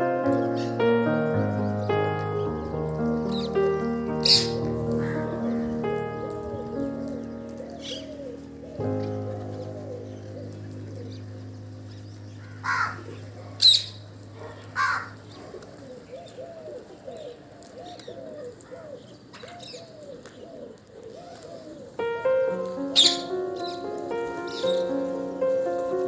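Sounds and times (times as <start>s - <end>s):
sharp bird calls: 0.4s - 25.3s
pigeons cooing: 0.5s - 26.0s.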